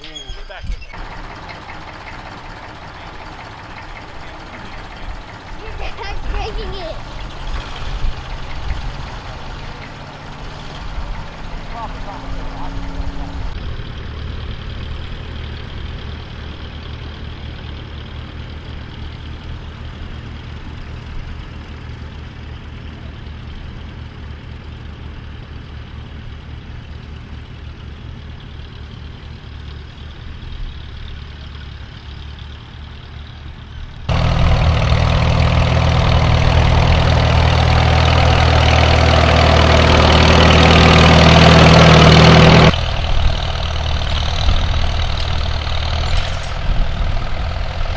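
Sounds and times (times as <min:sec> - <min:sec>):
farm engine running: 0:00.0 - 0:47.9
loud engine: 0:00.0 - 0:47.9.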